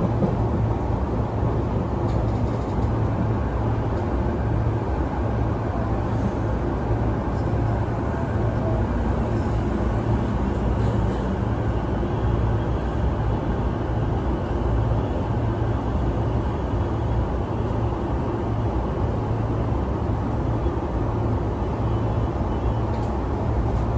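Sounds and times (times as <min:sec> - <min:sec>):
train wheels rumbling on rail: 0:00.0 - 0:23.9.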